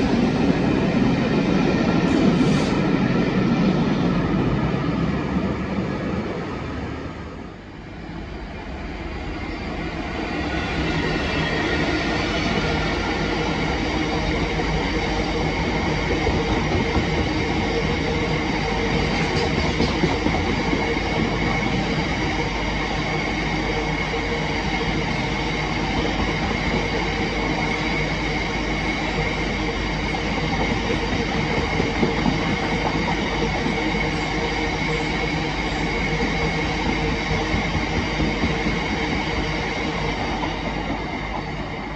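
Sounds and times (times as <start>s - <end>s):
train wheels rumbling and clattering: 0.0s - 6.9s, 9.4s - 41.9s
diesel locomotive passing: 0.0s - 41.9s.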